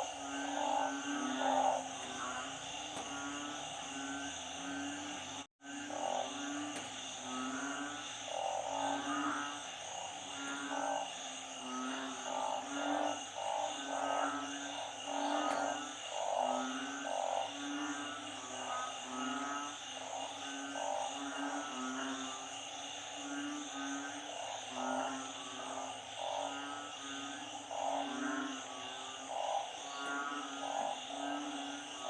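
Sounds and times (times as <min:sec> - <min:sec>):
frogs croaking: 0:00.0 - 0:32.0.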